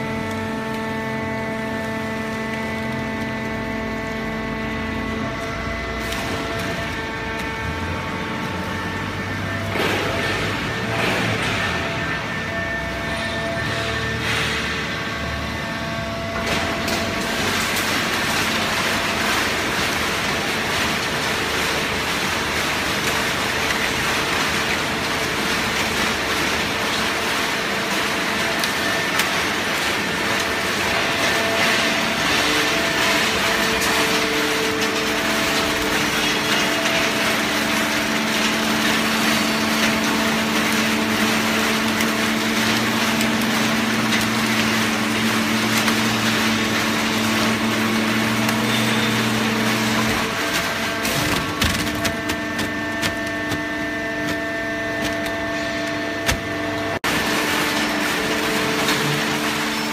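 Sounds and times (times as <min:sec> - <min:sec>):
baler mechanical noise: 0:00.0 - 0:59.9
hydraulic pump hum: 0:00.0 - 0:59.9.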